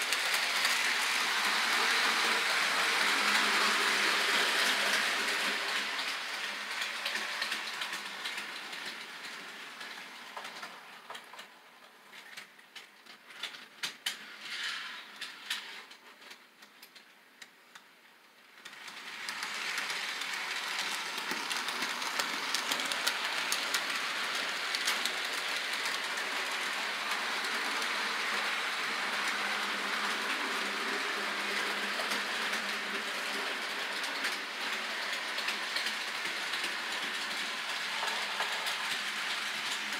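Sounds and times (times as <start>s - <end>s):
model train rumbling on track: 0.0s - 16.0s, 18.4s - 39.9s.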